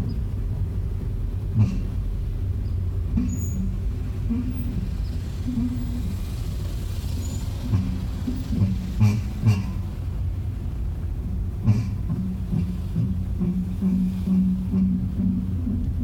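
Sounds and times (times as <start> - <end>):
brakes moaning: 0.0 - 16.0
car rumbling while moving: 0.0 - 16.0.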